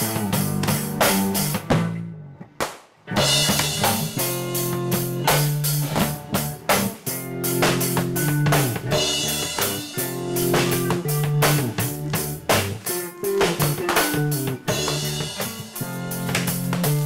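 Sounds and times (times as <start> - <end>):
steady drum beat: 0.0 - 1.9, 3.1 - 17.0
bass notes: 0.0 - 17.0
lead guitar: 0.0 - 17.0
rock music: 0.0 - 17.0.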